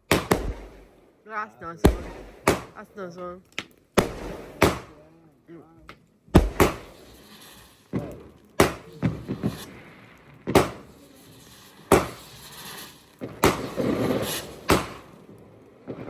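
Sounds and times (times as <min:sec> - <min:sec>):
fireworks exploding: 0:00.0 - 0:05.2, 0:06.2 - 0:16.0
fireworks rushing: 0:00.0 - 0:16.0.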